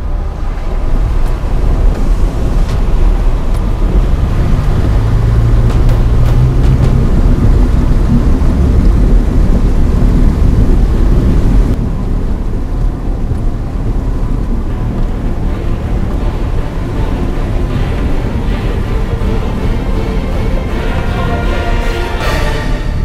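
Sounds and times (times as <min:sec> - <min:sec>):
wind on microphone: 0:00.0 - 0:21.0
truck engine rumbling: 0:00.0 - 0:23.0.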